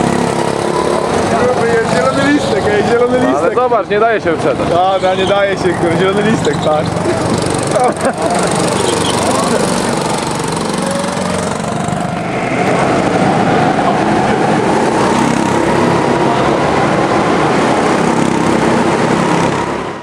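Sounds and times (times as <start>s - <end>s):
go-kart engines droning: 0.0s - 20.0s.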